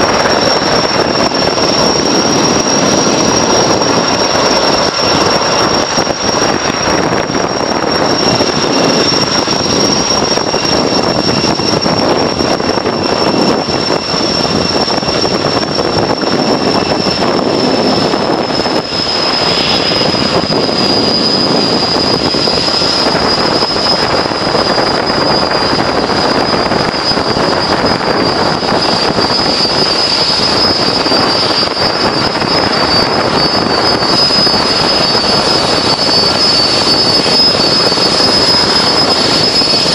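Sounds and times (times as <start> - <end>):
helicopter rotor noise: 0.0 - 39.9
high turbine whine: 0.0 - 39.9.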